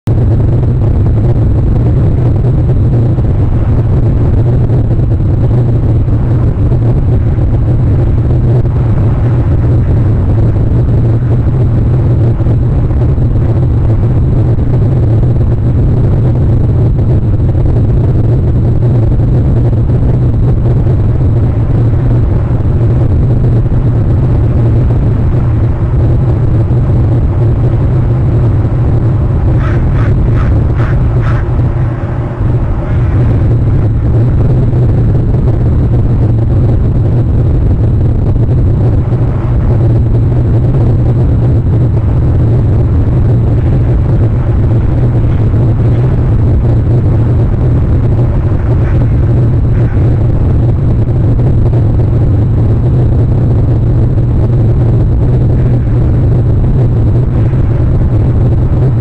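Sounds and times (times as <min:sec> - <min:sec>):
loud low rumble: 0:00.0 - 0:59.0.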